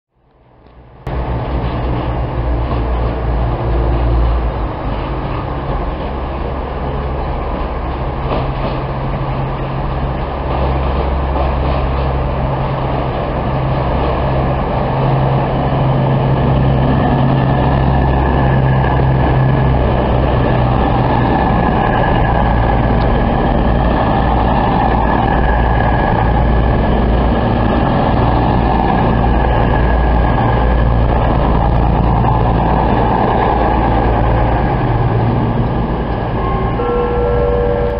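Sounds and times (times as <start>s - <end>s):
diesel train engine hum and whine: 0.2s - 37.9s.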